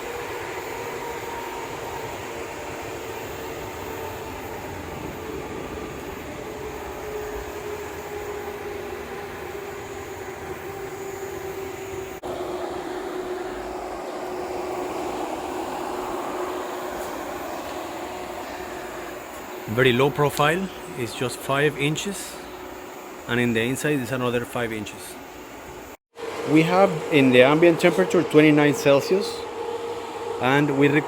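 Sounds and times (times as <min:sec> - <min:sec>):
air conditioner humming: 0:03.2 - 0:31.0.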